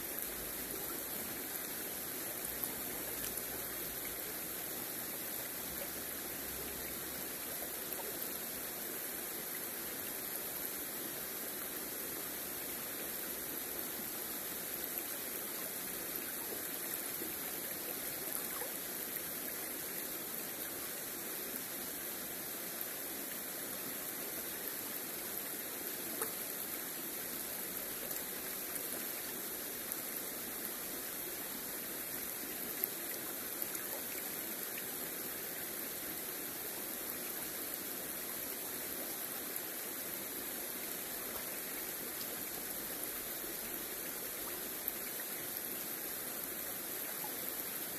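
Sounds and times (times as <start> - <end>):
river water rippling over stones: 0.0 - 47.9.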